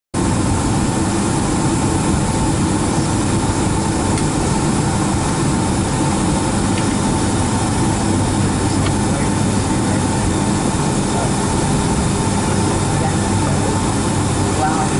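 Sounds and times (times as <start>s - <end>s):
faint steady whine: 0.2s - 14.9s
jet engines idling: 0.2s - 14.9s.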